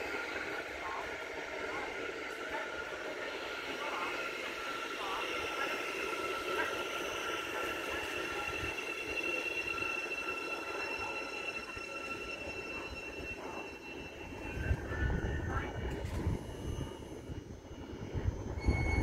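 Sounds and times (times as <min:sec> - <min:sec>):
train rolling rush: 0:00.0 - 0:19.0.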